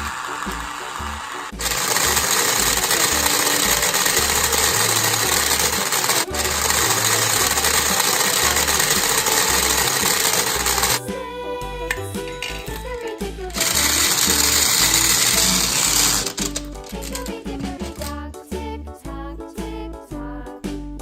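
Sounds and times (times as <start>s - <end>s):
toy blender motor whirring: 0.0s - 11.0s, 11.9s - 18.2s.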